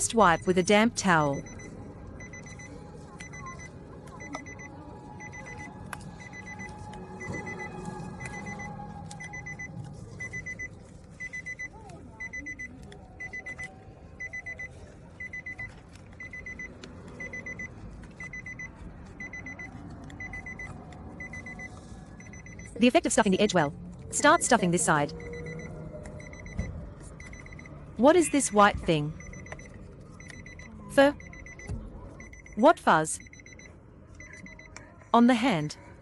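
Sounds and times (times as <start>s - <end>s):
electronic alarm beeping: 0.0s - 34.7s.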